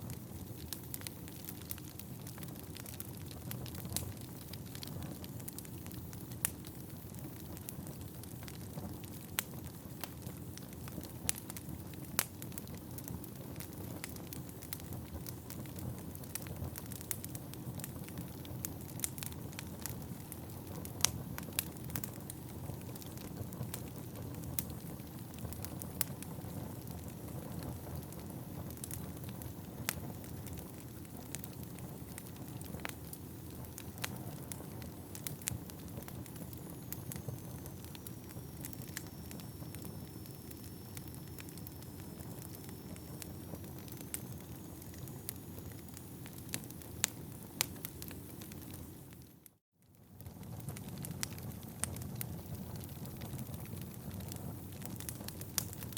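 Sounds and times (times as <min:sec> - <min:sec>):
burning logs crackling: 0:00.0 - 0:55.9
fire flames rushing: 0:00.1 - 0:49.0.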